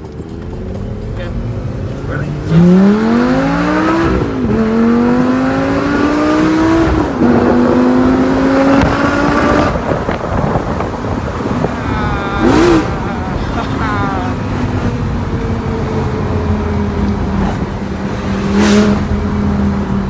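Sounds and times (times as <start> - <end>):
engine rev: 0.0 - 20.0
road noise: 0.0 - 20.0
sports car engine accelerating: 0.0 - 20.0.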